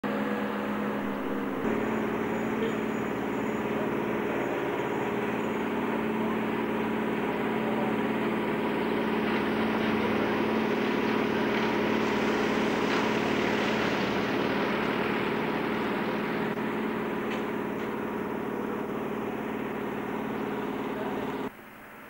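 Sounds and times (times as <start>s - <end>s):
engine droning: 0.0s - 21.5s.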